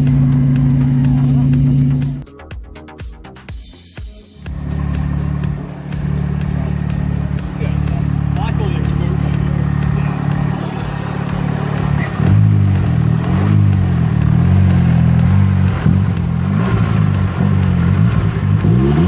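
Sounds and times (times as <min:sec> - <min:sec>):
car engine idling and revving: 0:00.0 - 0:02.3, 0:03.2 - 0:19.0.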